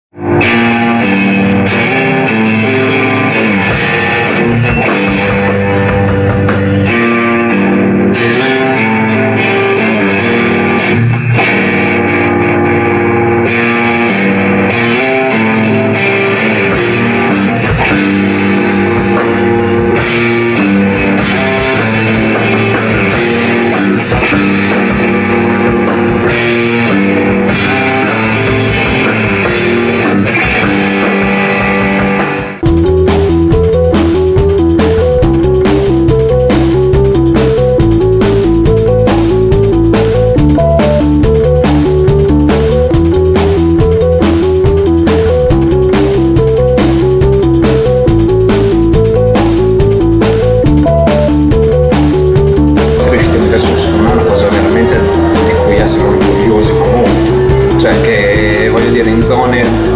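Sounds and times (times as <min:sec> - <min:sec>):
guitar rock music with bass: 0:00.0 - 0:59.9.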